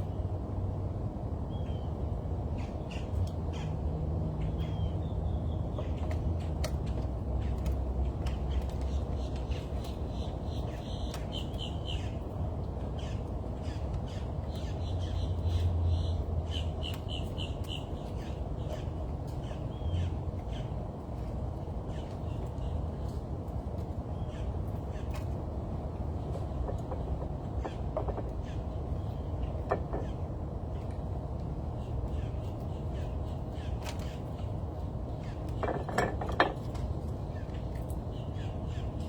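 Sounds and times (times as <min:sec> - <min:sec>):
birds calling: 0:04.4 - 0:39.0.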